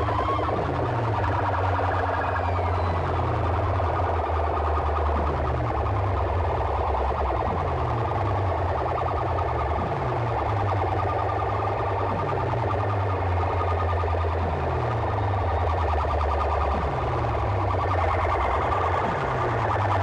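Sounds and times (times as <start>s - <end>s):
falling bass sweep: 0.0s - 20.0s.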